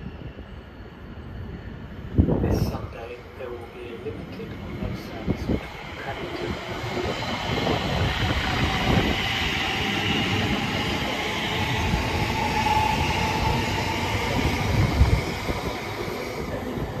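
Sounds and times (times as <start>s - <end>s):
train wheels rushing on rail: 0.0s - 17.0s.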